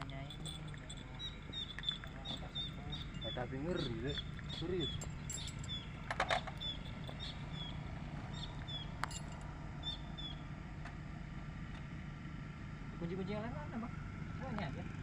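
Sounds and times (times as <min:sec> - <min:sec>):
heavy machinery engine idling: 0:00.0 - 0:15.0.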